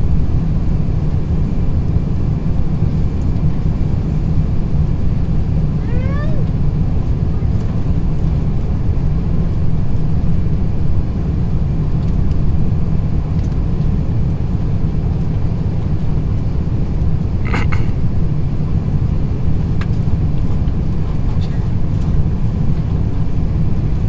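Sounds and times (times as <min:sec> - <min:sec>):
aircraft engines and airflow rumble: 0:00.0 - 0:24.0.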